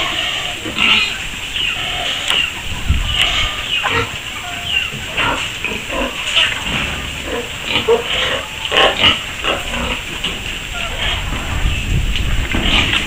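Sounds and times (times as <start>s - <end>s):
piglets grunting and squealing: 0.0s - 11.5s.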